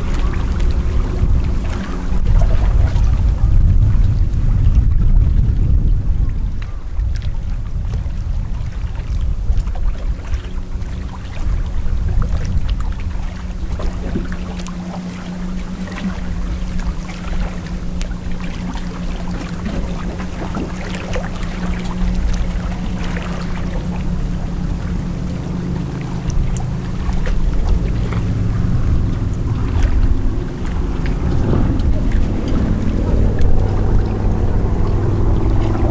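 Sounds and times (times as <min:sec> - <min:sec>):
lake water lapping: 0:00.0 - 0:35.9
low motor hum: 0:00.0 - 0:35.9
wind rumble on microphone: 0:00.0 - 0:35.9.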